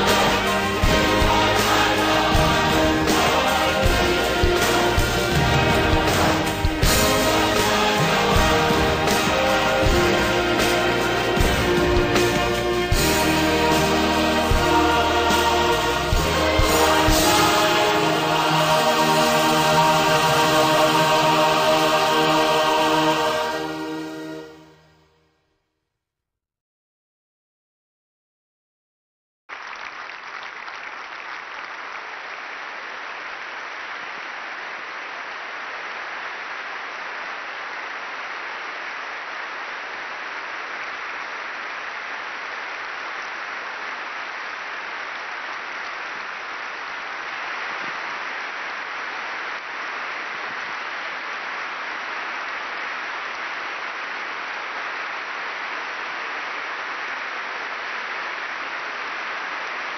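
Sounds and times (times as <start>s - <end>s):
congregation applauding: 0.0s - 24.9s, 29.5s - 59.9s.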